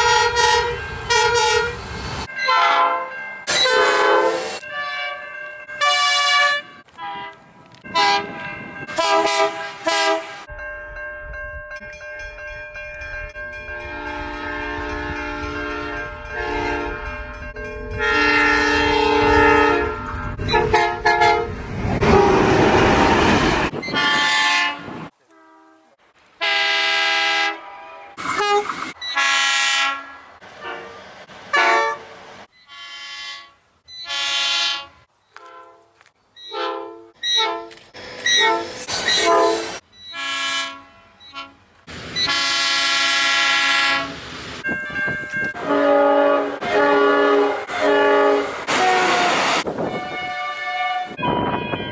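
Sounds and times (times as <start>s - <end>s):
train air horns: 0.0s - 5.2s, 5.8s - 10.5s, 13.8s - 17.1s, 17.9s - 44.3s, 45.5s - 51.9s
passing train rumble: 0.0s - 25.2s, 26.0s - 32.5s, 33.1s - 51.9s.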